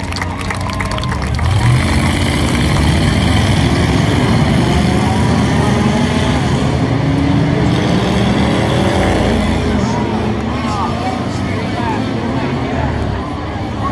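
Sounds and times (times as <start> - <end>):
racing car engines droning: 0.0 - 13.9.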